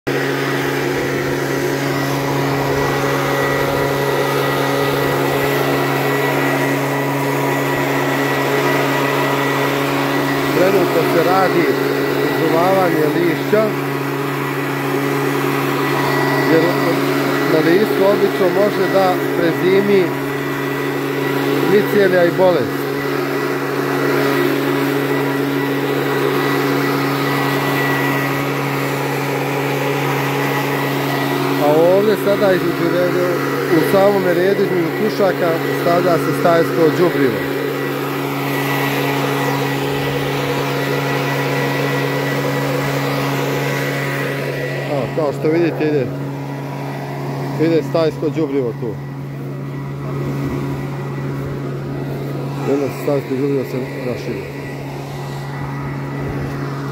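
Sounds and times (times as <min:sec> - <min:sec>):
leaf blower running: 0:00.0 - 0:56.9.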